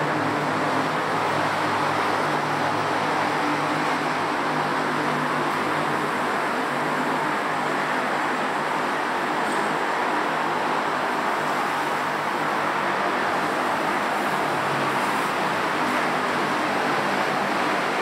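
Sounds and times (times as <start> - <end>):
road traffic hiss: 0.0 - 18.0.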